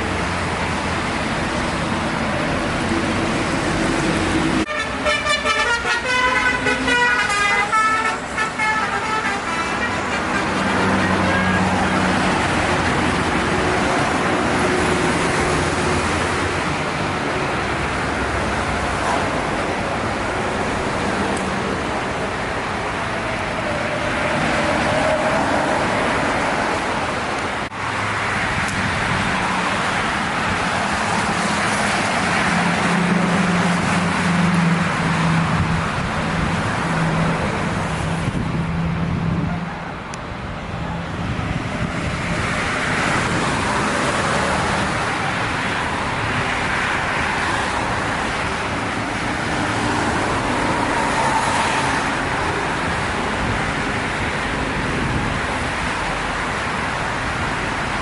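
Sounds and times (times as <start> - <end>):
heavy road traffic passing: 0.0 - 58.0.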